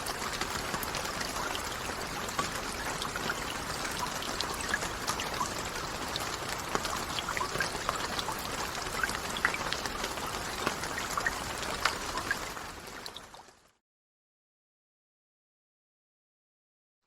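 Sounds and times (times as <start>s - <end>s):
steady rainfall: 0.0s - 13.8s.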